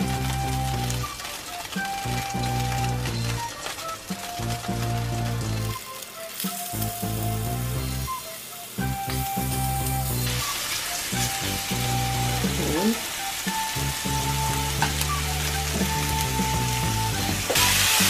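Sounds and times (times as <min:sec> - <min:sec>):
background music with held tones: 0:00.0 - 0:18.0
steaks sizzling in oil: 0:00.0 - 0:18.0.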